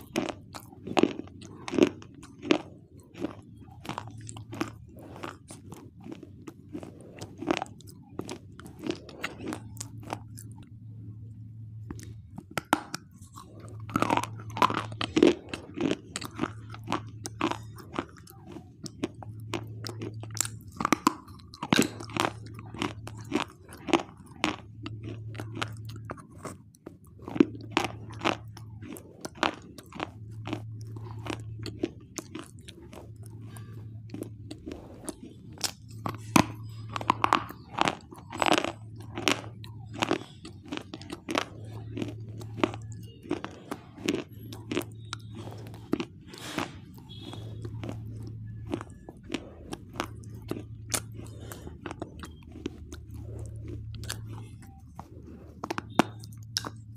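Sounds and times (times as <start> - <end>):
crunchy biting and chewing: 0.0 - 56.9.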